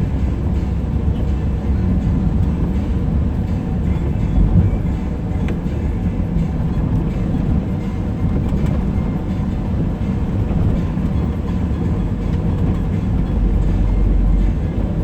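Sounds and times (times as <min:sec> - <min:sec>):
car engine: 0:00.0 - 0:15.0.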